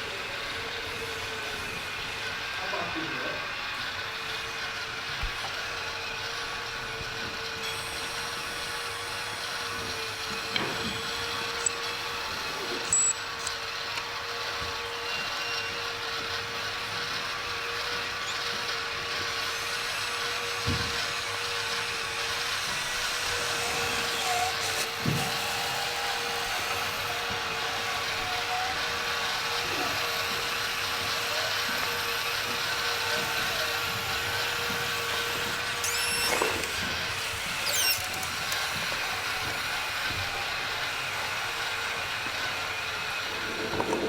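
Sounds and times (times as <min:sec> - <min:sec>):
mechanical hum: 0:00.0 - 0:44.0
small electric motors whining: 0:00.0 - 0:44.0.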